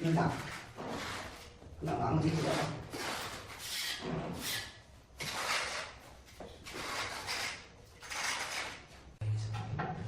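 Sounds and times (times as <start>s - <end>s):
trowel scraping wet mortar: 0.0s - 6.0s, 6.6s - 8.9s.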